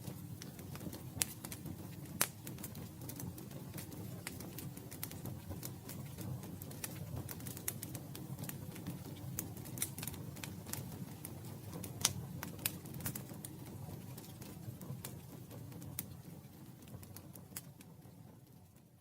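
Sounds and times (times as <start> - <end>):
campfire wood crackling: 0.0 - 18.9
low rumble of flames: 0.0 - 19.0.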